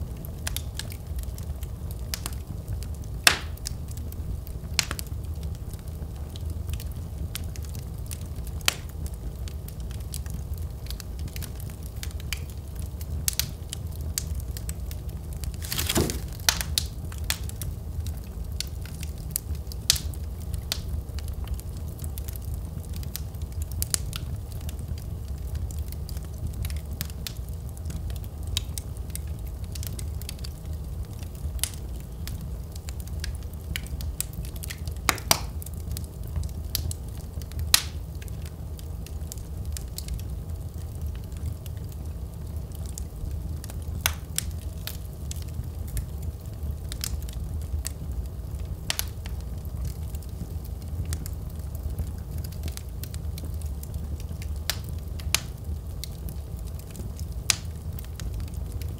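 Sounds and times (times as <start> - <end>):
fireplace crackling and popping: 0.0 - 58.9.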